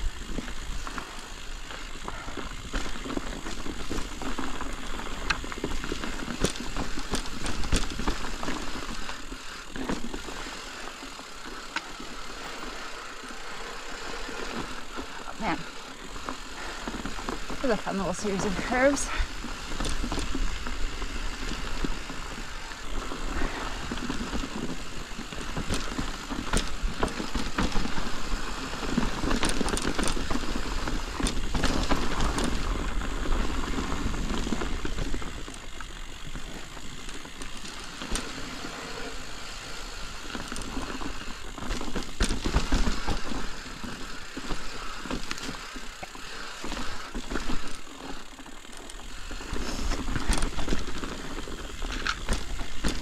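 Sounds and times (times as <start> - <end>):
bike rattling over rocks: 0.0 - 53.0
tyres crunching on dirt and stones: 0.2 - 53.0.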